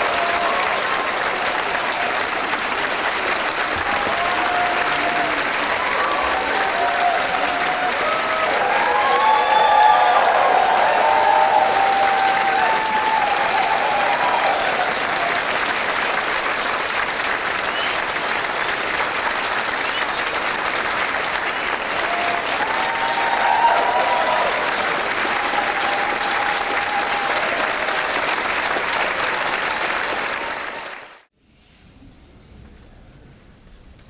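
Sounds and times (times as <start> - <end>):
audience applauding: 0.0 - 31.3.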